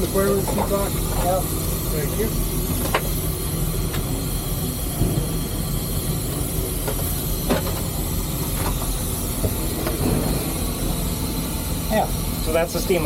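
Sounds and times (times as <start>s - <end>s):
steam locomotive hiss and rumble: 0.0s - 13.0s.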